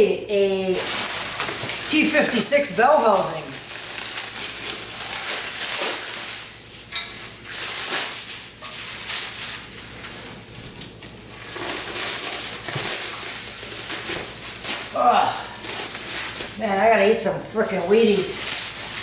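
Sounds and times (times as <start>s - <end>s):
cardboard and packing material rustling: 0.7s - 16.9s, 17.5s - 19.0s.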